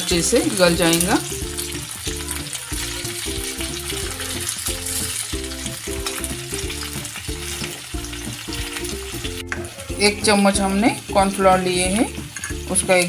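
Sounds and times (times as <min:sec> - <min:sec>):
chicken frying in hot oil: 0:00.0 - 0:13.0
music of short repeated notes: 0:00.0 - 0:13.0.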